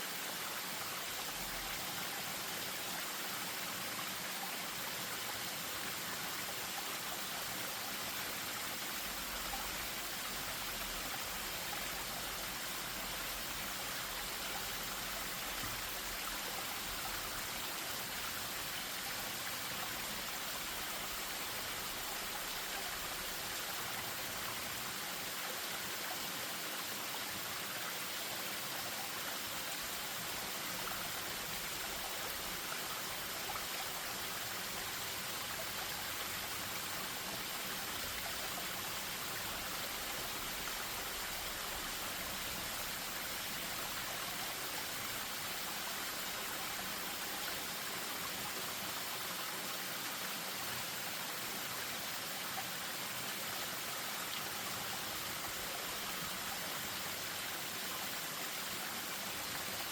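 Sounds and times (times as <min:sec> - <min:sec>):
stream over small waterfall: 0:00.0 - 0:59.9.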